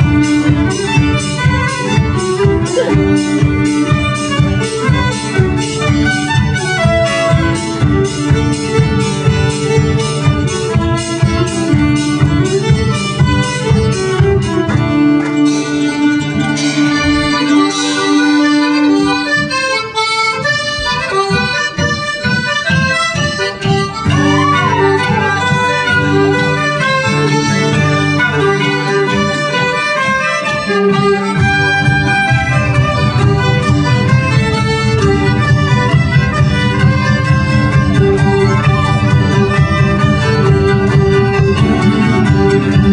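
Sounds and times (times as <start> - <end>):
bass: 0.0 - 42.9
folk band playing: 0.0 - 42.9.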